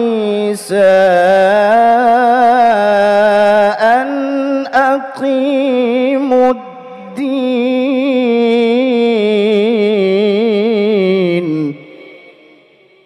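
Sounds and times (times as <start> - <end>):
man chanting melismatically: 0.0 - 13.0.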